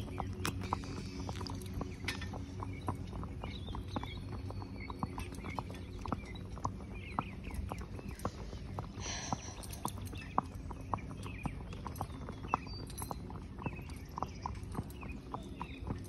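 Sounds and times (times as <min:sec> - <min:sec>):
hooves clip-clopping on asphalt: 0:00.0 - 0:16.0.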